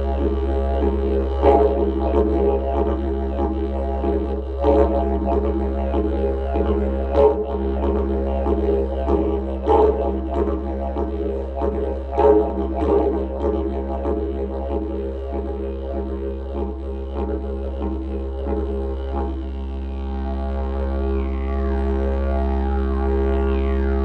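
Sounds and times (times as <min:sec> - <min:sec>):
didgeridoo drone: 0:00.0 - 0:24.0.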